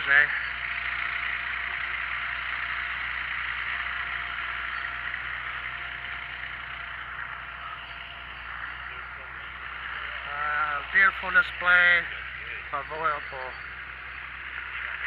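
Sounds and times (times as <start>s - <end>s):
engine running: 0.0s - 15.0s
faint steady tone: 0.0s - 15.0s.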